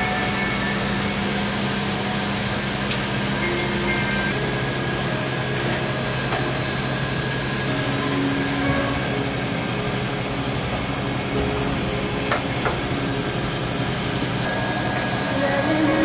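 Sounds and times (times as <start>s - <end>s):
cotton candy machine whirring: 0.0s - 16.0s.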